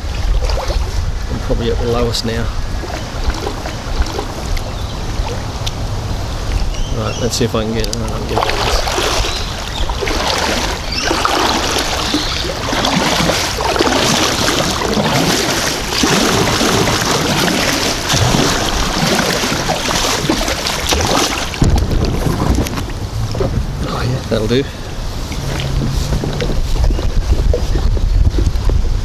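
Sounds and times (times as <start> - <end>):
kayak paddle splashing: 0.0 - 1.2, 2.0 - 6.9, 7.9 - 29.0
rushing water: 0.0 - 29.0.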